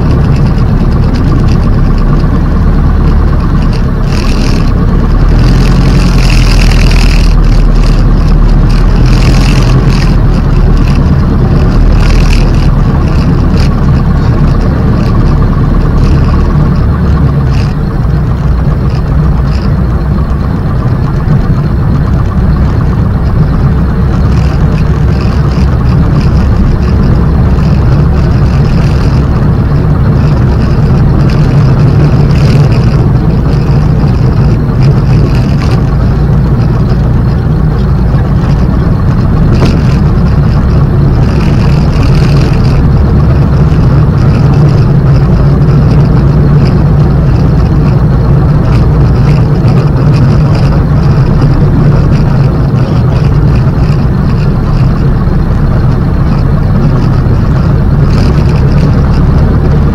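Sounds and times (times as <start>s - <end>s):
light aircraft engine running: 0.0s - 59.9s.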